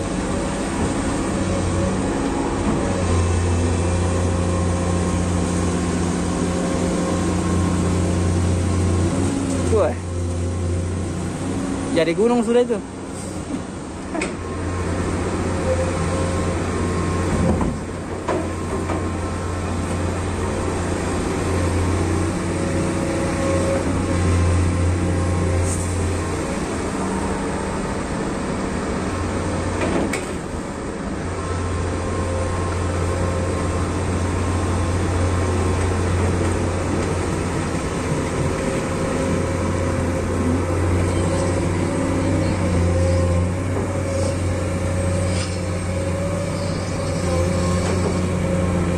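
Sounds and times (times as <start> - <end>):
large diesel engine humming: 0.0 - 48.9.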